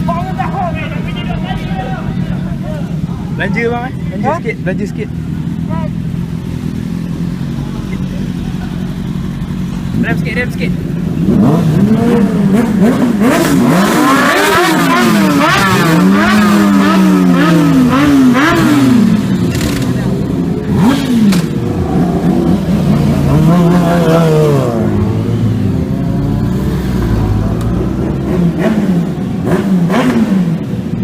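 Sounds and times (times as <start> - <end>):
superbike engines accelerating: 0.0 - 31.0.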